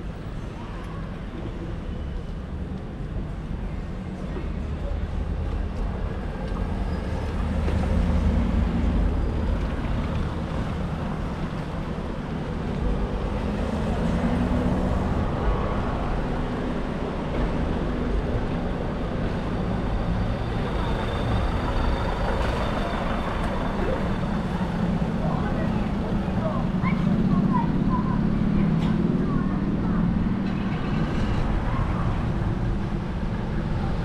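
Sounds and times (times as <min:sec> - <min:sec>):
road noise: 0:00.0 - 0:34.0.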